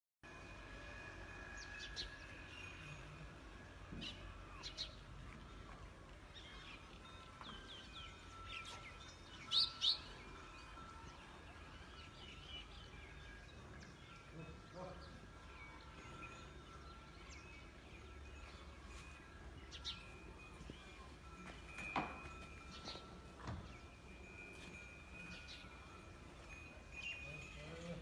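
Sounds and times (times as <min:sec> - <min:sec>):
birds chirping: 0:03.9 - 0:28.0.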